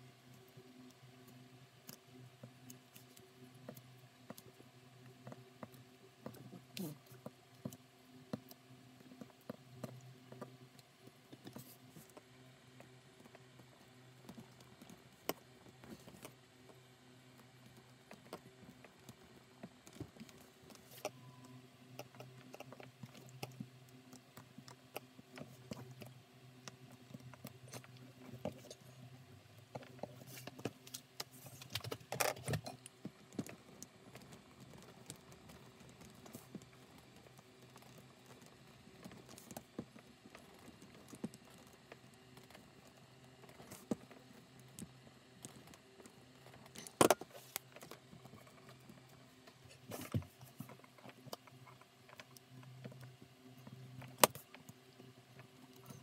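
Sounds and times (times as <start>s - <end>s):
faint steady hum: 0.0s - 56.0s
small clicks and rustles: 0.0s - 56.0s.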